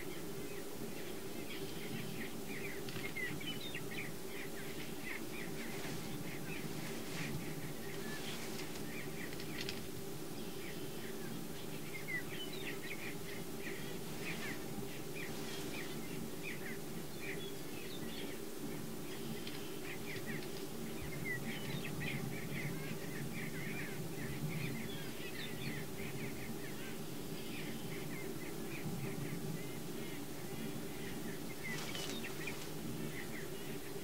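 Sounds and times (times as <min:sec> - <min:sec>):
prairie chickens booming chorus: 0:00.0 - 0:34.0.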